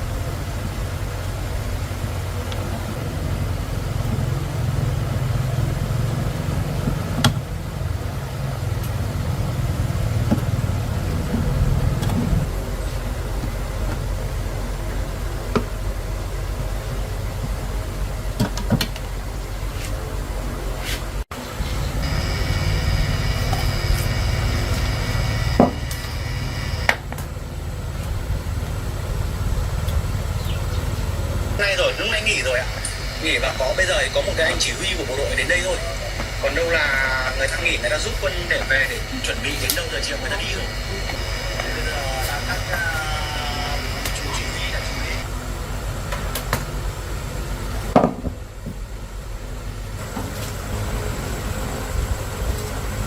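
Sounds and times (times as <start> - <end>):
engine rumbling: 0.0 - 53.0
faint high whine: 0.0 - 53.0.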